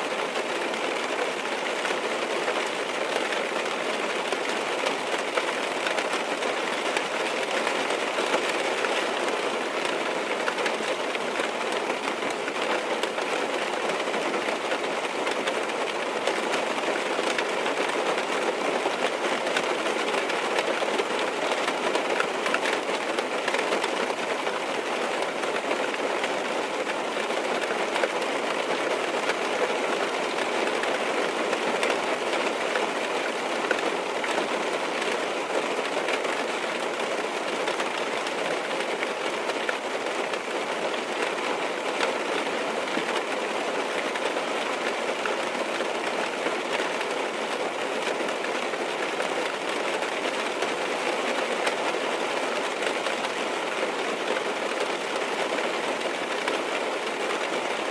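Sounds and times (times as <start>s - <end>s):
rain on car roof: 0.0s - 57.9s.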